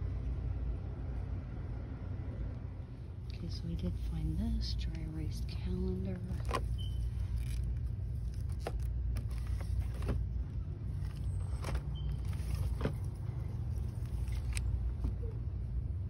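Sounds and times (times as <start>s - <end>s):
low rumble of shop noise: 0.0s - 16.0s.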